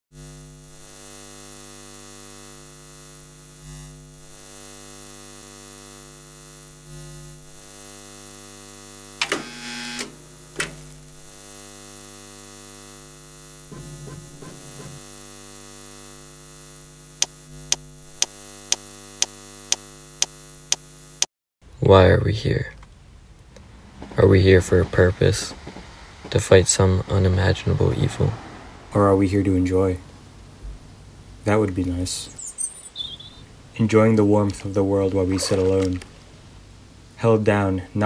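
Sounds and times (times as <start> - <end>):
crackling electrical buzz: 0.1 - 21.3, 28.6 - 38.0
electrical mains hum: 0.2 - 38.0.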